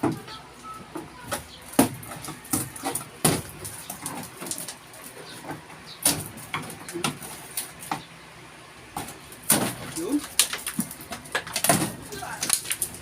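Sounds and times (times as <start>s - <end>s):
wooden framing knocks and clatter: 0.0s - 8.1s, 8.9s - 13.0s.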